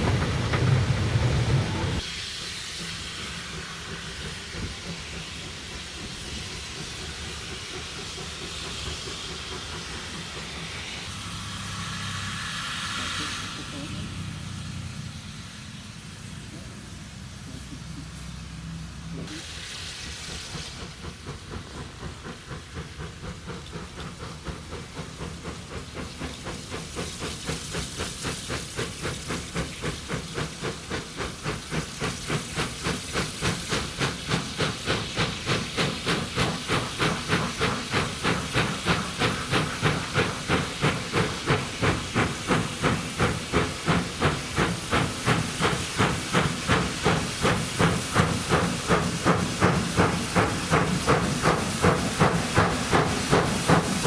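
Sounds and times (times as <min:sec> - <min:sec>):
steam hiss: 0:00.0 - 0:54.0
steam locomotive exhaust beating: 0:00.0 - 0:54.0.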